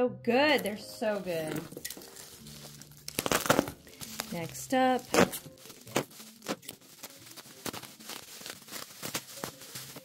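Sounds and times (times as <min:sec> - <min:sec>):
plastic wrap crinkling and tearing: 0:00.6 - 0:10.0.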